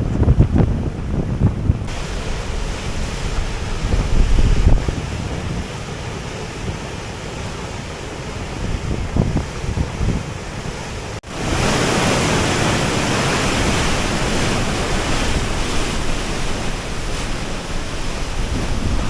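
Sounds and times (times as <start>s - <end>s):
water rushing from dam outlet: 0.9s - 19.0s.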